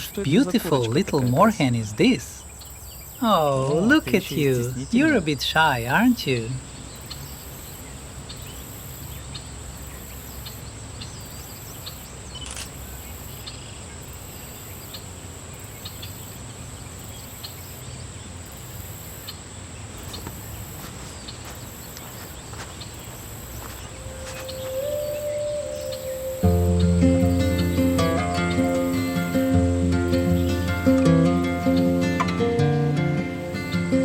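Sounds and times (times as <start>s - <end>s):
faint ticks and chirps: 0.0s - 32.4s
insect trill: 0.0s - 34.0s.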